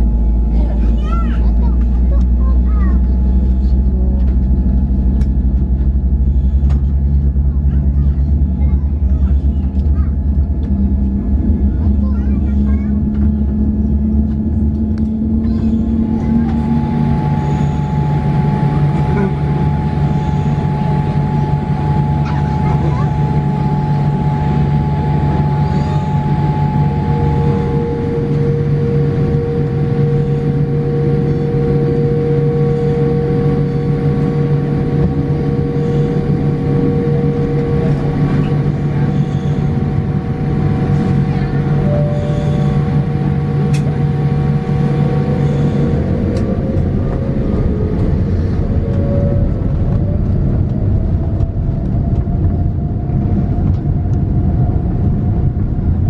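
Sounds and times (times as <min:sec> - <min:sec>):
aircraft cabin engine hum: 0:00.0 - 0:56.0
steady engine tones: 0:00.0 - 0:56.0.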